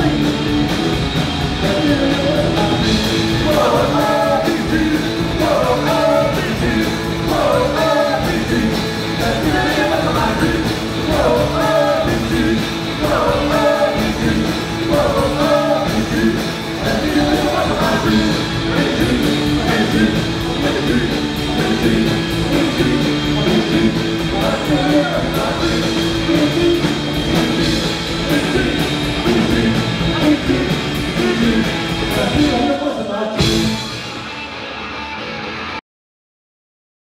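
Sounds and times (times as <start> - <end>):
person singing lead vocal: 0.0 - 0.7, 1.5 - 33.8
bass guitar: 0.0 - 35.8
drum kit: 0.0 - 35.8
electric guitars: 0.0 - 35.8.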